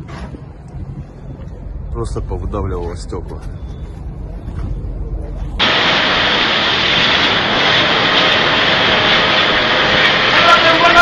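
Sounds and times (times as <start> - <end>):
roar of blizzard wind: 0.0 - 11.0
wind buffeting microphone: 0.0 - 11.0.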